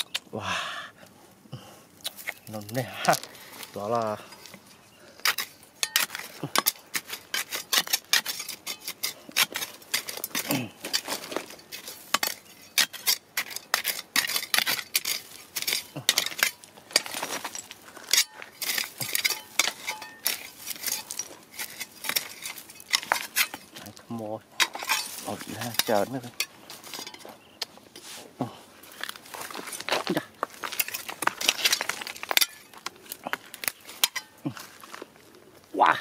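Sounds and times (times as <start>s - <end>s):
digging tool scraping stony soil: 2.0s - 35.1s.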